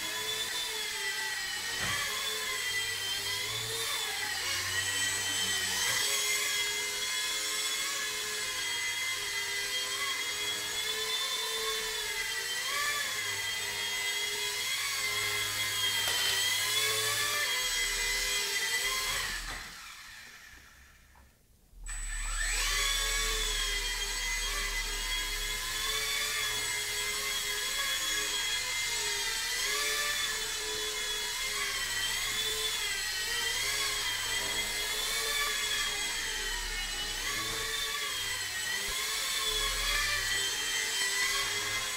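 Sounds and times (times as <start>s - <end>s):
toy helicopter rotors whining: 0.0s - 21.0s, 21.9s - 41.9s.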